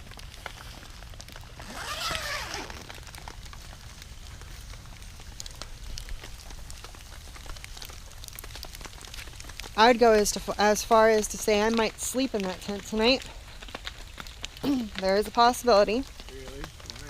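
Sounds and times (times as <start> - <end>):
rain drops ticking on a surface: 0.0 - 17.0.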